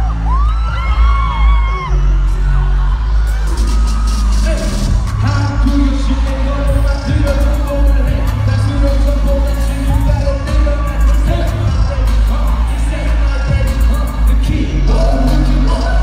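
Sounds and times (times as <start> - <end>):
hip-hop song over concert speakers: 0.0 - 16.0.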